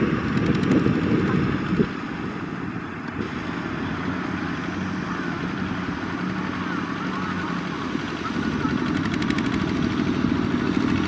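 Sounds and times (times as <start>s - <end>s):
diesel engines chugging: 0.0s - 11.0s.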